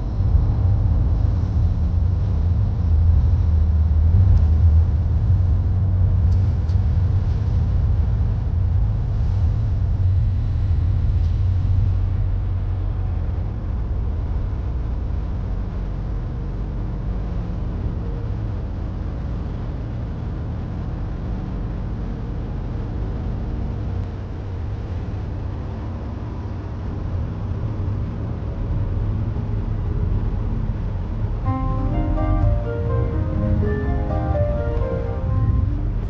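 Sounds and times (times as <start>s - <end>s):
road and engine noise inside car: 0.0s - 36.0s.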